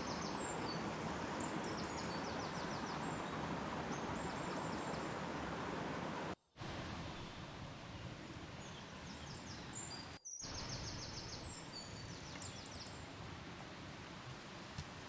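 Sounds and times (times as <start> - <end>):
songbirds chirping and trilling: 0.0 - 6.4, 7.2 - 13.1
outdoor background hiss: 0.0 - 15.0.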